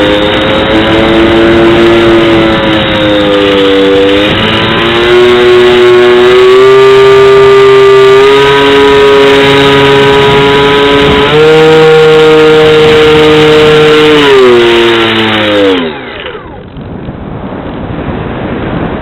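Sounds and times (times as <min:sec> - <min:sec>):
wind rushing past camera: 0:00.0 - 0:15.6, 0:16.3 - 0:19.0
electric motor and propeller whining: 0:00.0 - 0:17.9.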